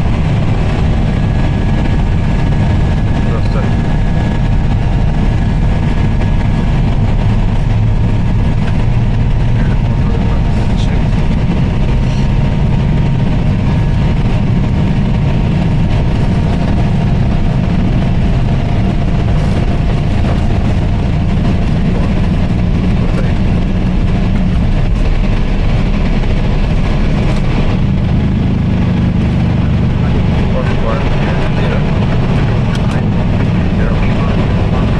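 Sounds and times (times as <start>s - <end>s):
aircraft engines rumbling: 0.0s - 34.9s.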